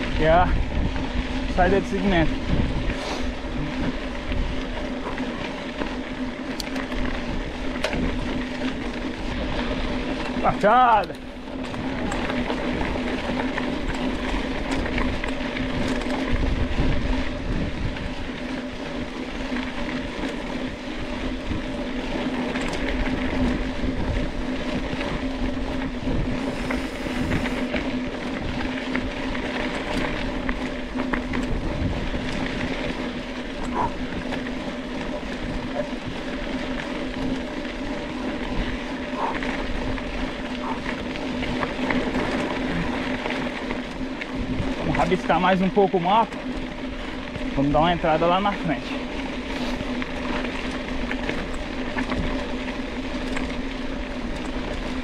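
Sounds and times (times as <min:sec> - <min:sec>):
bike tyre hum on dirt: 0:00.0 - 0:55.0
wind buffeting microphone: 0:00.0 - 0:55.0.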